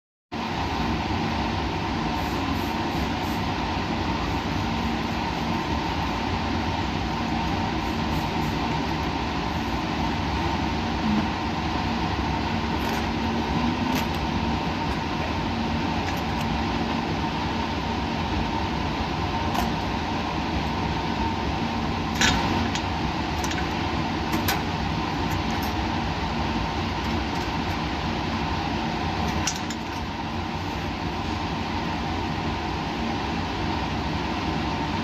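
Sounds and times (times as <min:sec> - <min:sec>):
laboratory machinery hum and hiss: 0:00.4 - 0:35.0.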